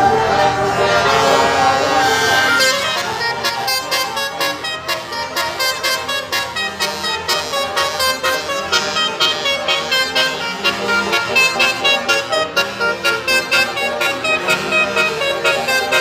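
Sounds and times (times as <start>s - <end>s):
multi-tone air horns playing tune: 0.0s - 16.0s.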